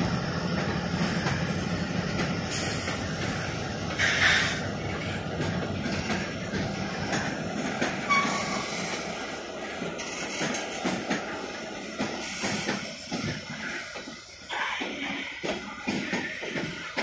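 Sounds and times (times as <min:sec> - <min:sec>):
freight train rumbling: 0:00.0 - 0:17.0
wheels clacking over rail joints: 0:00.0 - 0:17.0.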